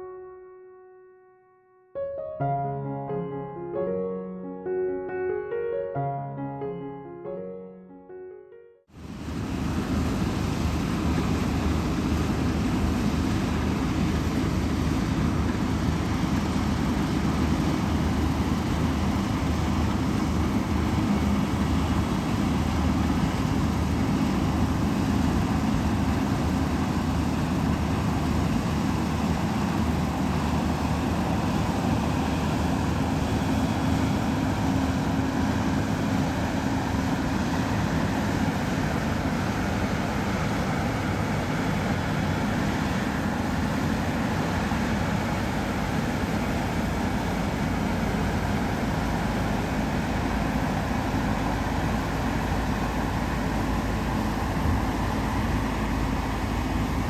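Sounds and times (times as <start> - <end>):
combine harvester running: 9.0 - 57.0.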